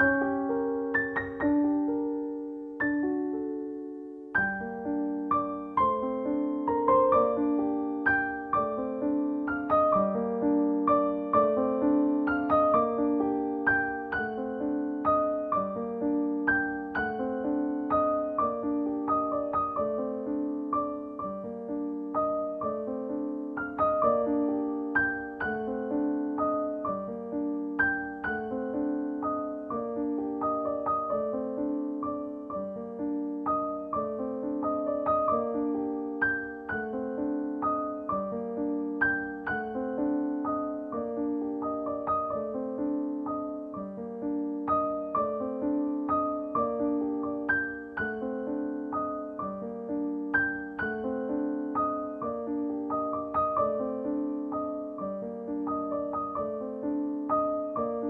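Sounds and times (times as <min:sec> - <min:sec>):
gentle piano pattern: 0:00.0 - 0:58.0.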